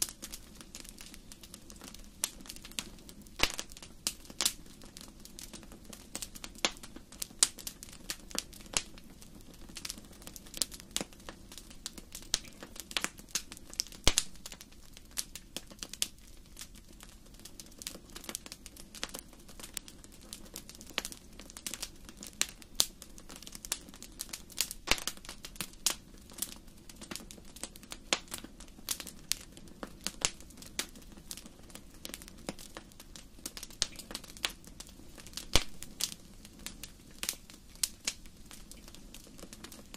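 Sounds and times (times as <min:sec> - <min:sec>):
fire crackling and popping: 0:00.0 - 0:39.9
low hiss of flames: 0:00.0 - 0:39.9.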